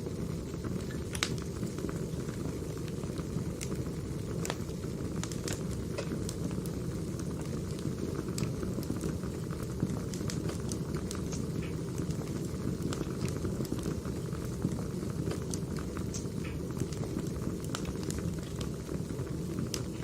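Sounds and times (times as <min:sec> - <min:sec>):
firewood crackles and pops: 0:00.0 - 0:20.0
low rush of flames: 0:00.0 - 0:20.0.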